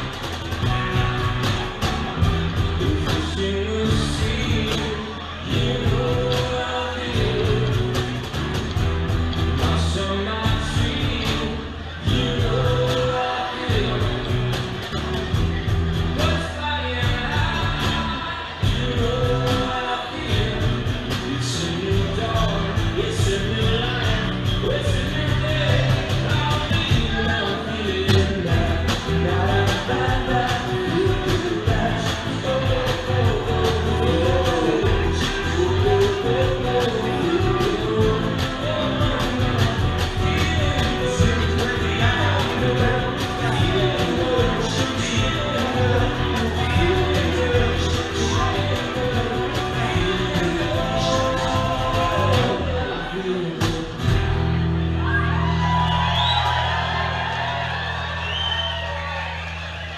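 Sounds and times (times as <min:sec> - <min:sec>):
person singing: 0:00.0 - 0:08.8, 0:09.4 - 0:15.3, 0:16.0 - 0:54.3
live rock band playing: 0:00.0 - 0:57.5
bass line: 0:00.0 - 0:59.9
drums: 0:00.0 - 0:59.9.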